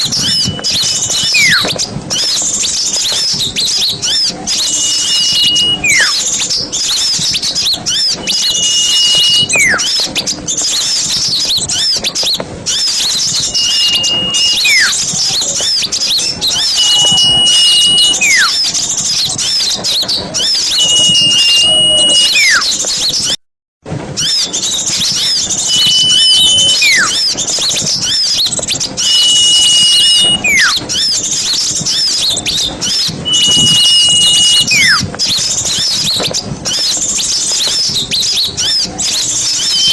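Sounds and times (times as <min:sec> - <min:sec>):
bird call with descending whistle: 0:00.0 - 0:23.4, 0:24.2 - 0:39.9
small birds chattering: 0:00.0 - 0:23.4, 0:24.2 - 0:39.9.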